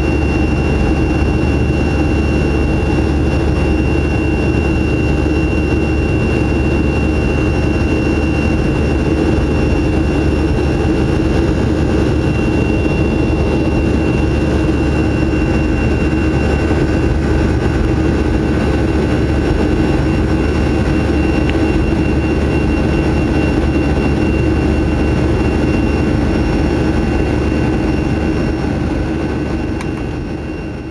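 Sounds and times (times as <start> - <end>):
jet engines heard from cabin: 0.0 - 30.9.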